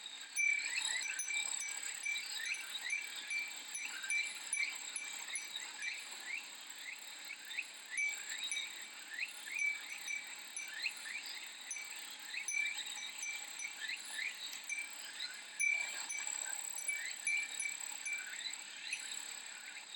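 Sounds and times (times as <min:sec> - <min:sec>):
glass wind chime tinkling: 0:00.1 - 0:19.9
cicadas chorus: 0:00.4 - 0:19.9.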